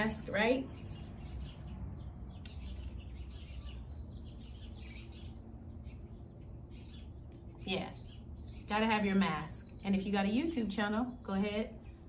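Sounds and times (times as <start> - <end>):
faint birds chirping: 0.0 - 12.0
low steady hum: 0.0 - 12.0.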